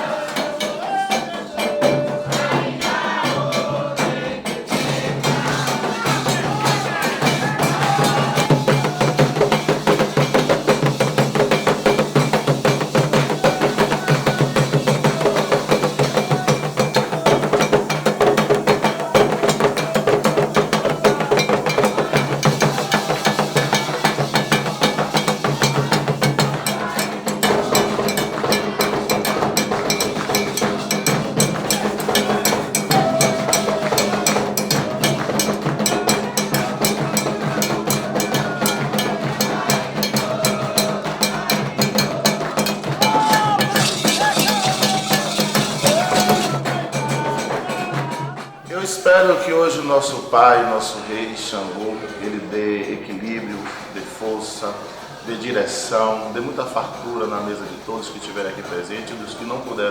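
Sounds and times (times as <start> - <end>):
hand drums fast rhythm: 0.0 - 59.9
sharp clacking beat: 0.0 - 59.9.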